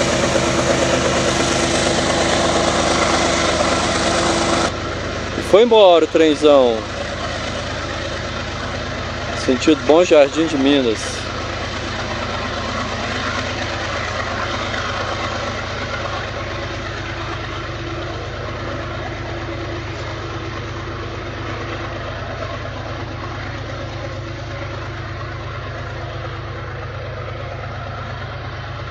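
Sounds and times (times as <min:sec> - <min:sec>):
locomotive deep rumble: 0:00.0 - 0:28.9.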